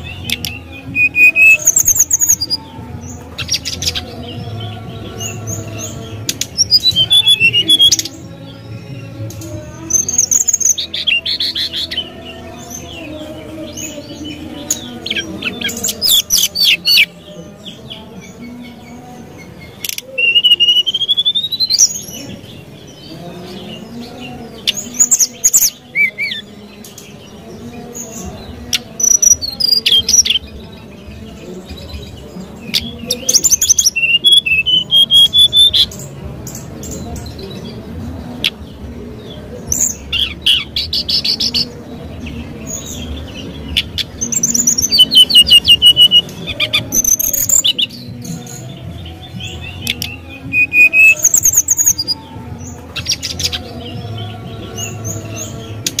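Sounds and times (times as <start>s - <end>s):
bird singing trills and whistles: 0.0s - 13.1s, 13.7s - 27.2s, 28.0s - 37.8s, 39.7s - 56.0s.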